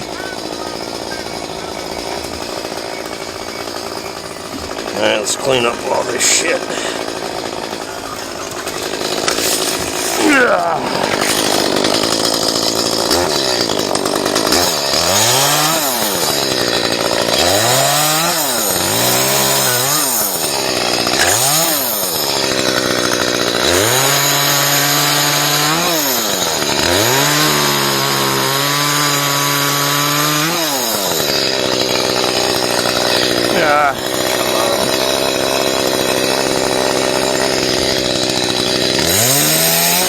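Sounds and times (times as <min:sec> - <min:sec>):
chainsaw revving: 0:00.0 - 0:40.0.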